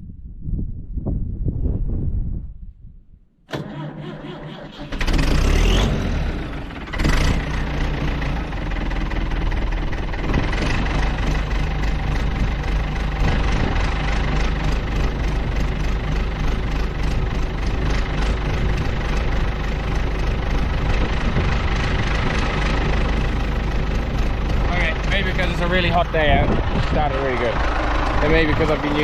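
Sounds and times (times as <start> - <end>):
tractor engine running: 3.5 - 29.0.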